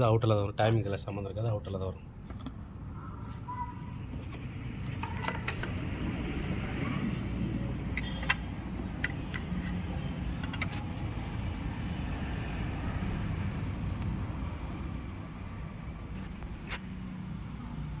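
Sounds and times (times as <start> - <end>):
vehicle noise rumble: 0.0 - 18.0.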